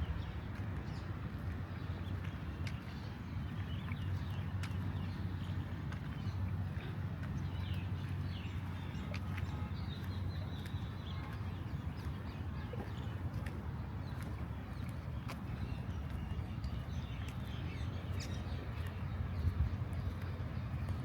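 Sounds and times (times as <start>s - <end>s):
small birds chirping: 1.8s - 21.0s.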